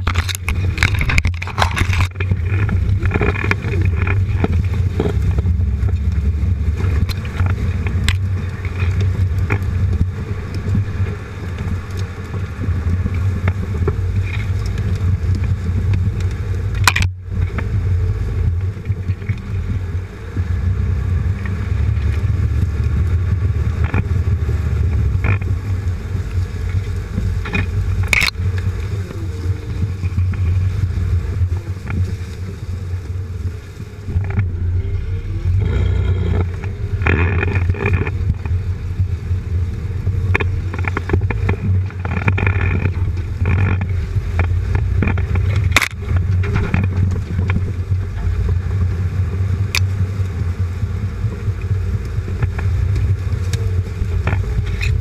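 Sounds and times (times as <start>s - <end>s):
engine and drivetrain rumble: 0.0s - 55.0s
tyres rolling over leaves and sticks: 0.0s - 55.0s.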